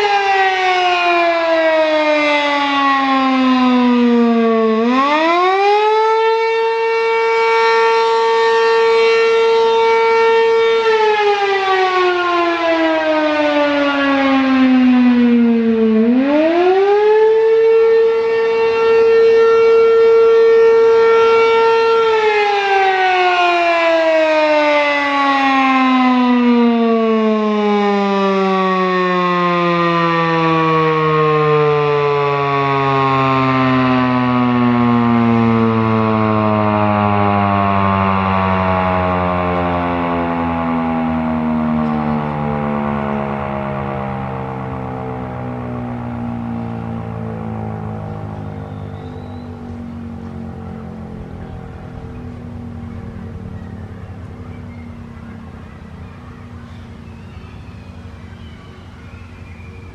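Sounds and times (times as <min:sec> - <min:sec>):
loud siren swooping: 0:00.0 - 0:59.9.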